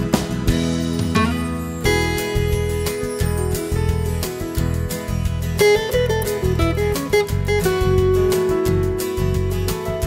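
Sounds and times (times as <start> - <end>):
guitar over bass beat: 0.0 - 10.0.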